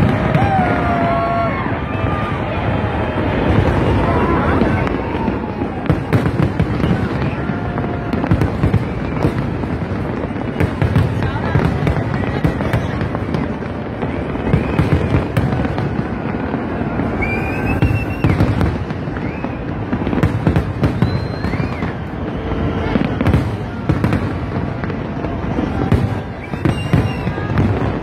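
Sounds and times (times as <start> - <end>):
fireworks bangs and crackles: 0.0 - 28.0
fireworks whistles: 0.0 - 28.0.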